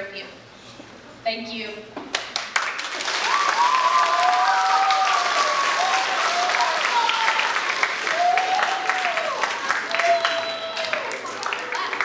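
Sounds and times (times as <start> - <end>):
children applauding: 2.4 - 12.0.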